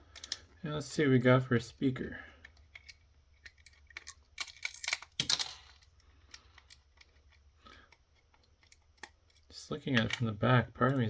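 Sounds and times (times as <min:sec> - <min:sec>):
small plastic parts clicking: 0:00.0 - 0:00.6, 0:02.4 - 0:11.0.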